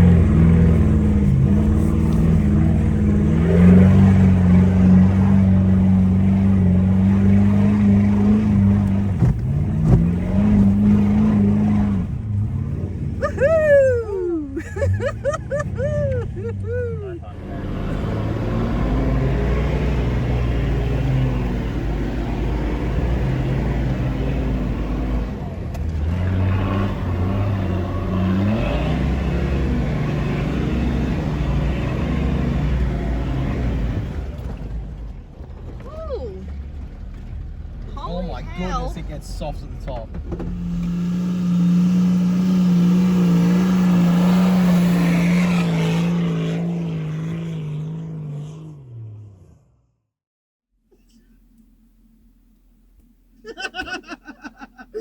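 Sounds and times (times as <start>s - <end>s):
engine working hard under load: 0.0s - 48.1s.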